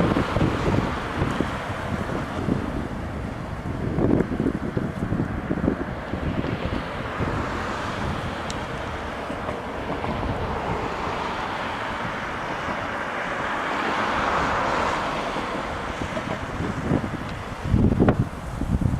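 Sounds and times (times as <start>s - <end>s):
electric train running past: 0.0s - 18.8s
wind buffeting microphone: 0.0s - 18.9s.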